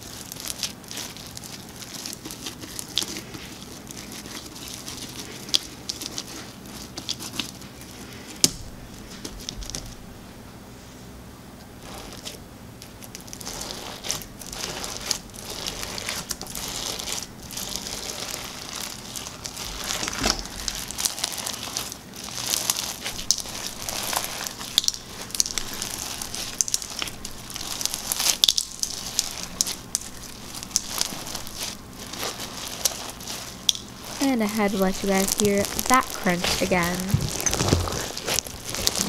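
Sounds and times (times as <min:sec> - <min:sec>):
crunchy slime being squeezed: 0:00.0 - 0:10.0, 0:11.8 - 0:39.0.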